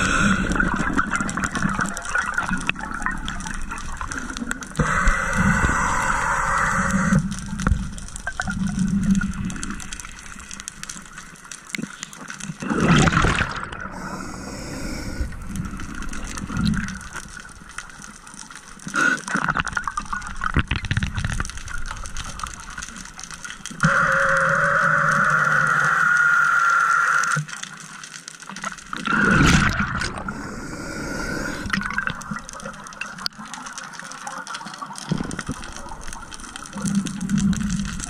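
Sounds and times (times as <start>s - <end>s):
gush of bubbles: 0.0s - 11.2s, 12.6s - 22.8s, 28.8s - 38.0s
muffled underwater water noise: 0.0s - 38.0s.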